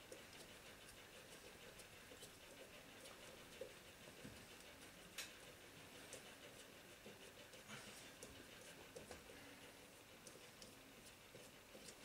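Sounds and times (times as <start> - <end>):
hands clicking and tapping on motor: 0.0 - 9.4, 10.0 - 12.0.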